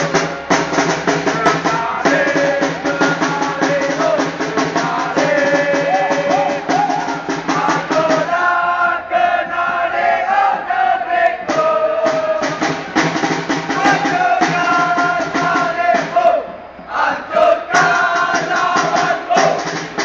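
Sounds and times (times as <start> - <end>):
crowd chanting in unison: 0.0 - 19.7
rapid drumbeat: 0.0 - 20.0.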